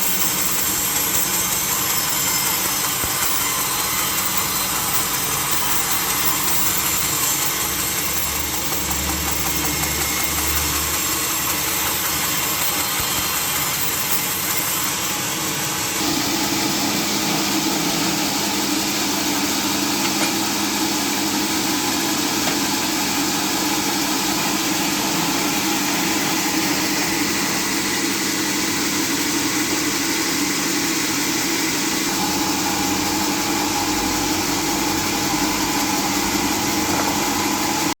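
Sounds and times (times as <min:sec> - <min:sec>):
sawmill saw machinery running: 0:00.0 - 0:38.0.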